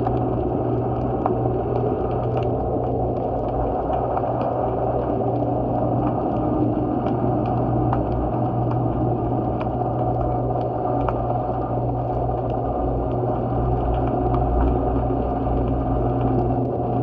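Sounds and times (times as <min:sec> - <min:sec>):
dense rumble: 0:00.0 - 0:17.0
steady low hum: 0:00.0 - 0:17.0.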